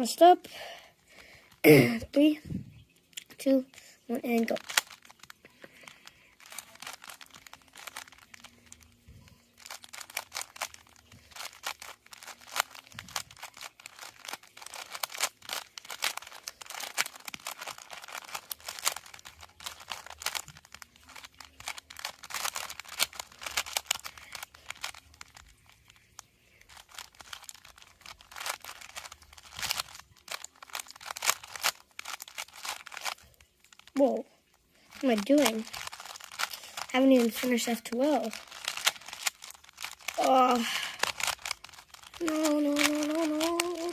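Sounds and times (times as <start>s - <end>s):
puzzle cube clicking turns: 3.1s - 43.9s.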